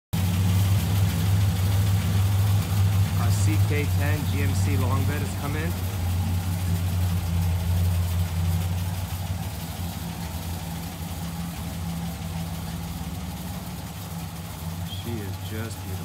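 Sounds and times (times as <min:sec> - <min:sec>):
truck engine idling: 0:00.1 - 0:16.0.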